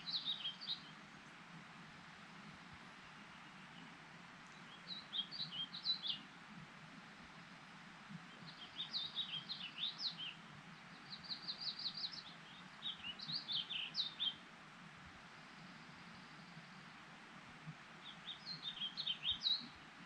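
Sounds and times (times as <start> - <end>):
songbird singing: 0.0 - 1.6, 2.3 - 6.6, 7.2 - 20.0
faint outdoor hiss: 0.0 - 20.0.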